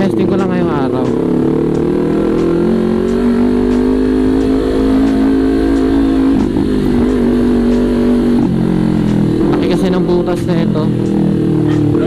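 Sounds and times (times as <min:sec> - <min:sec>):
motorcycle exhaust note: 0:00.0 - 0:12.0.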